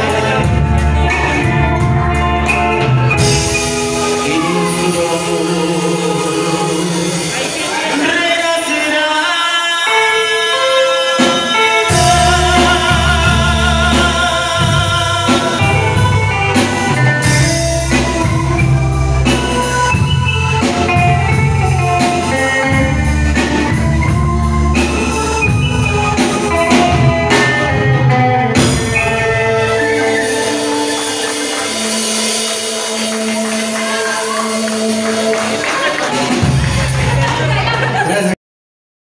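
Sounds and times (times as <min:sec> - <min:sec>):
electric bass: 0:00.0 - 0:08.7, 0:10.1 - 0:38.2
drum kit: 0:00.0 - 0:08.8, 0:10.5 - 0:38.0
keyboards: 0:00.0 - 0:38.4
live band playing dance music: 0:00.0 - 0:38.4.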